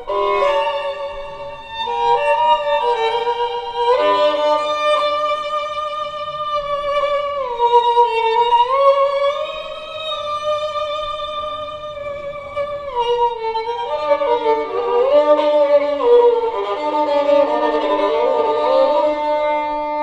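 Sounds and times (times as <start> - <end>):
violin melody over loudspeakers: 0.0 - 20.0.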